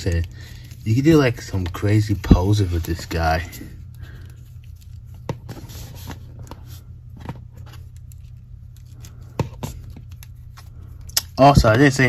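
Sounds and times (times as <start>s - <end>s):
light rubbing and handling: 0.0s - 12.0s
steady low hum: 0.0s - 12.0s.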